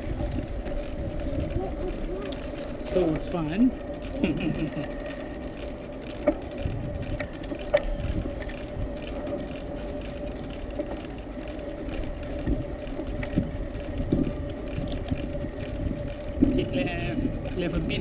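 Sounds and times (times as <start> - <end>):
bicycle tyres rolling on pavement: 0.0 - 18.0
bike clicks and rattles: 0.0 - 18.0.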